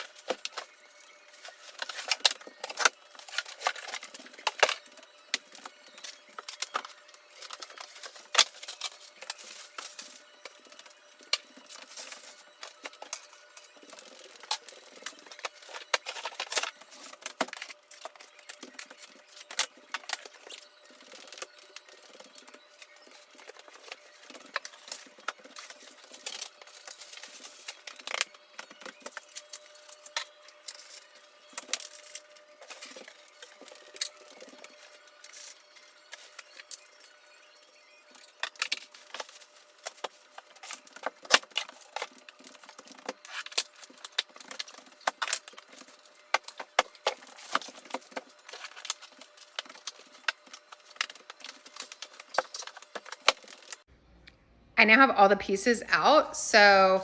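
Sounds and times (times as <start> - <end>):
packaging crackling and rustling: 0.0 - 53.9.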